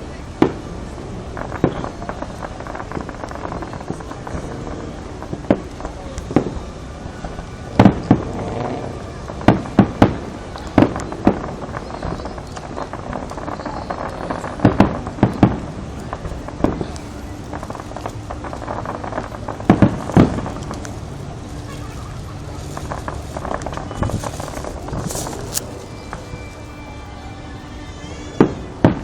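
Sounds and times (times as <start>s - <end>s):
background murmur: 0.0s - 29.0s
fireworks bangs: 0.4s - 27.1s.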